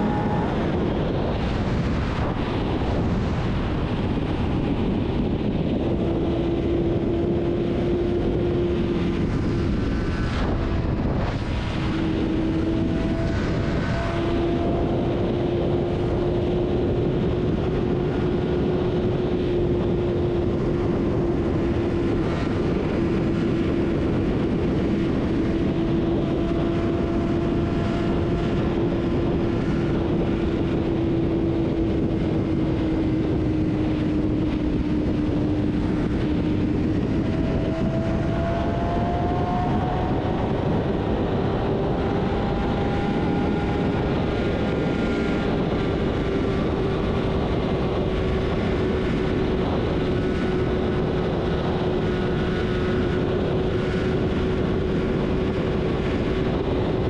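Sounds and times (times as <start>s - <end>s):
motorcycle engine cruising: 0.0s - 57.0s
wind rush: 0.0s - 57.0s.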